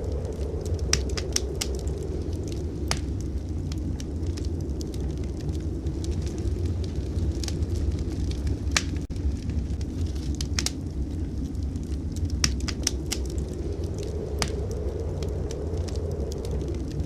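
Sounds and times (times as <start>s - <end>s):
sharp pops of fire: 0.0s - 4.5s, 5.4s - 17.0s
steady low rumble: 0.0s - 17.0s
wood fire crackling: 0.0s - 17.0s.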